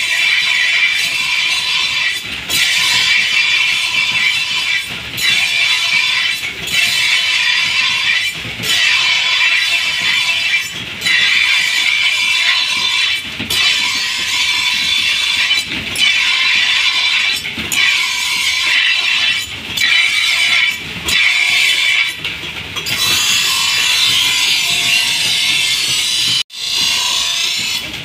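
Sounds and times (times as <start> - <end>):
blade grinding on grinding wheel: 0.0 - 22.2, 22.8 - 28.0.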